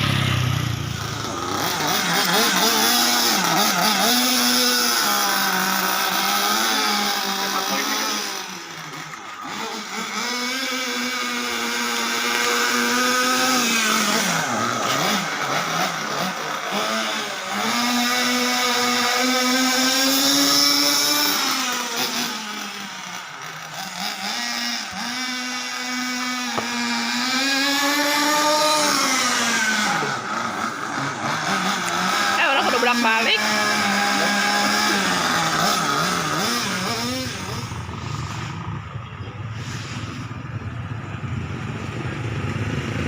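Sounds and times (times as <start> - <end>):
rc car engine revving: 0.0 - 43.0.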